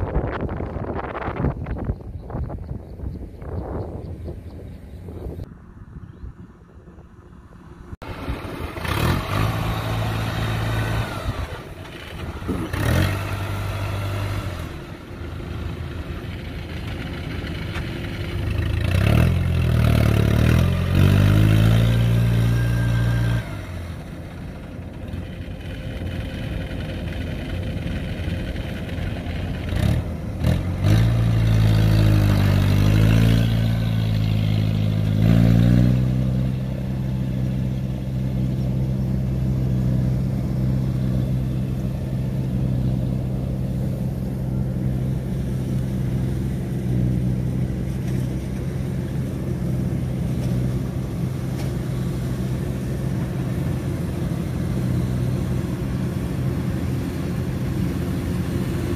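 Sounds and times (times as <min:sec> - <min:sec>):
combine harvester engine revving: 0:06.4 - 0:58.9.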